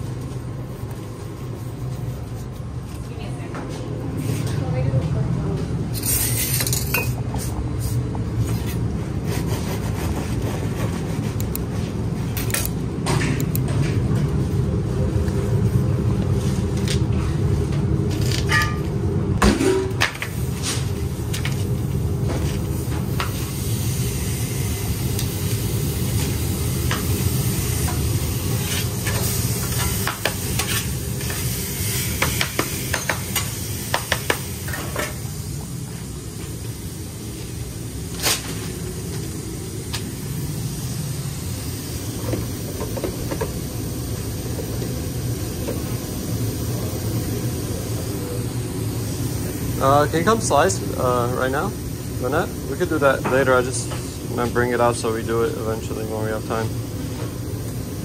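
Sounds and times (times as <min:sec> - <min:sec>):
kitchen equipment hum: 0:00.0 - 0:58.0.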